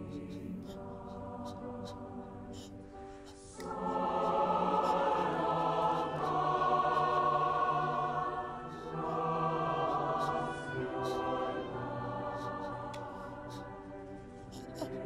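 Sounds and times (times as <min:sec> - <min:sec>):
choir singing long chords: 0:00.0 - 0:15.0.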